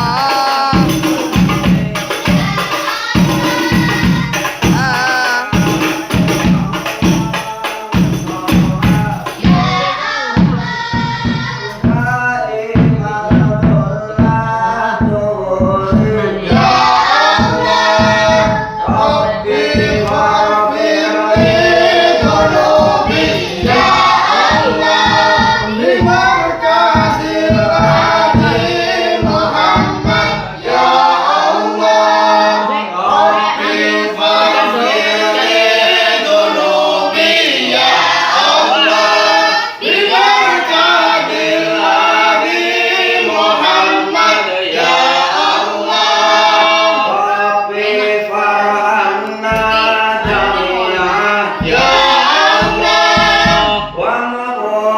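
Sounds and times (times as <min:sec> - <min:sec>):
percussion beats: 0:00.0 - 0:54.3
group of voices singing: 0:00.0 - 0:54.9.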